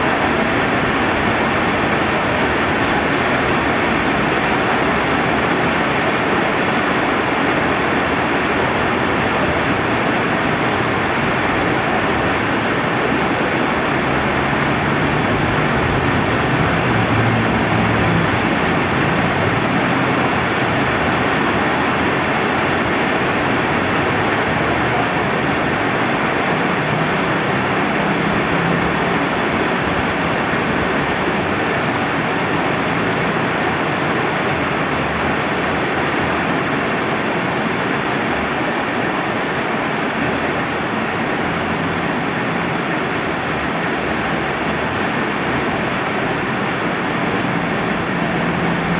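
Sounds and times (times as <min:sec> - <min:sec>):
rain falling: 0:00.0 - 0:48.9
river water rushing: 0:00.0 - 0:48.9.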